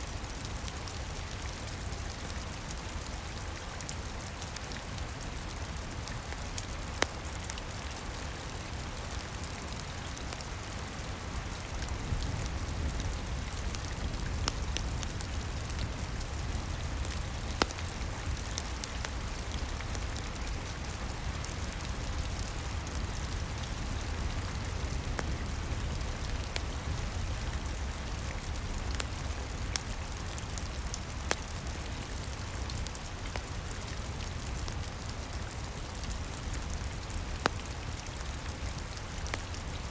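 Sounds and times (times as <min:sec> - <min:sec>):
steady rain: 0:00.0 - 0:39.9
wood fire crackle: 0:00.0 - 0:39.9.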